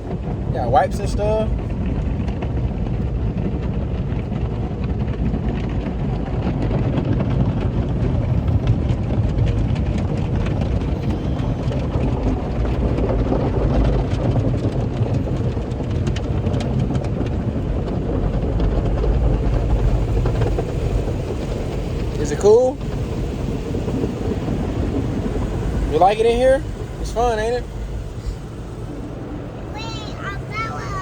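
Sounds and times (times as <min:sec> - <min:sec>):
car wash water spray rumble: 0:00.0 - 0:31.0.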